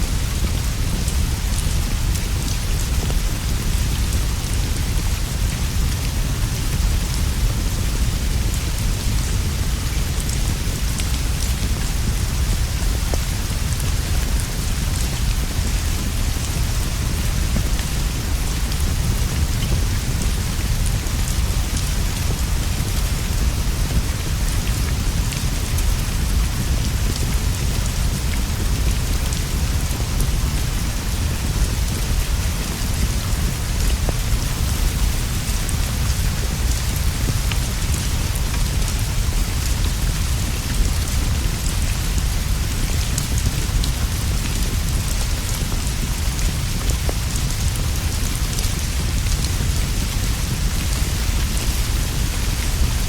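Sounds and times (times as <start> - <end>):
rain on leaves and straw roof: 0.0 - 53.0.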